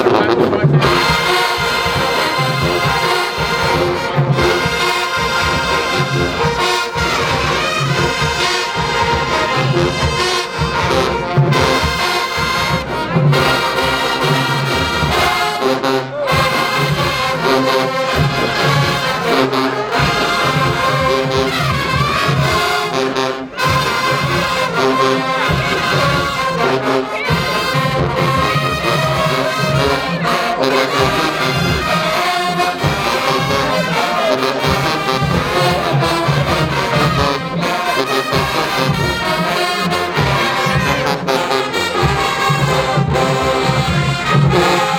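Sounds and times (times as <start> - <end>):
drums and sousaphones pulse: 0.0 - 44.9
marching band brass playing: 0.0 - 44.9.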